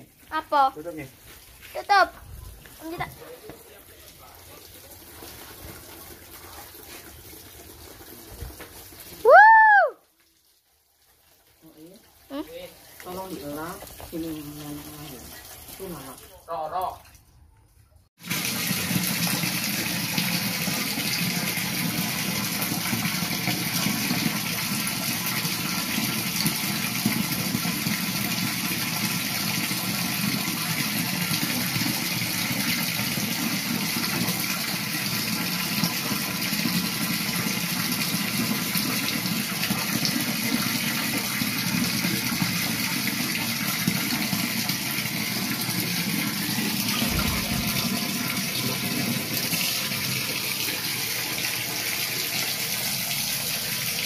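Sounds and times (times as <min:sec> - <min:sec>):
tap water pouring into box: 0:01.0 - 0:09.3, 0:10.0 - 0:17.3, 0:18.2 - 0:54.0.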